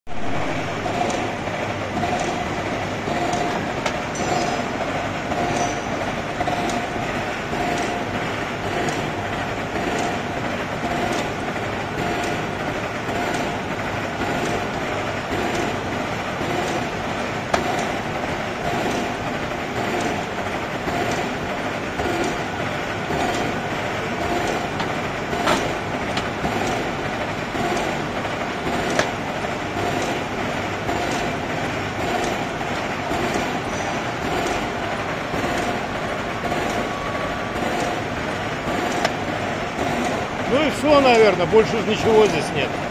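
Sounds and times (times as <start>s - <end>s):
lathe gear drone: 0.1s - 42.9s
pulsing machine whine: 0.1s - 42.9s
sharp machine clicks: 0.2s - 42.8s.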